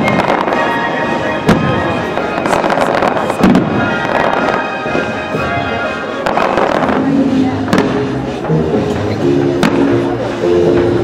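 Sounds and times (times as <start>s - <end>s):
fireworks bangs: 0.0s - 11.0s
fireworks crackling: 0.0s - 11.0s
show music: 0.0s - 11.0s.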